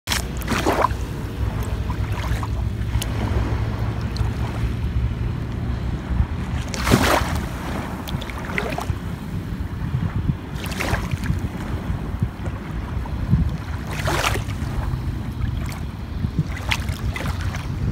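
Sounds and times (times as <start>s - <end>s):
small waves lapping: 0.0s - 17.9s
wind buffeting microphone: 0.1s - 17.9s.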